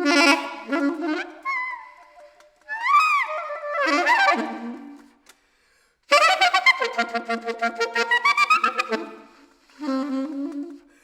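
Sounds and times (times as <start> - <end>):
solo saxophone: 0.0 - 5.3, 6.1 - 11.0.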